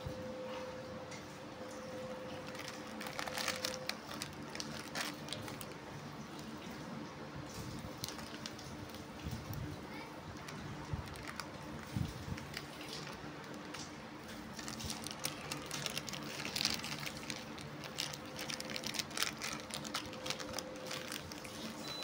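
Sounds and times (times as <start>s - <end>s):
plastic wrapper crinkling: 2.0s - 6.8s, 7.5s - 22.0s.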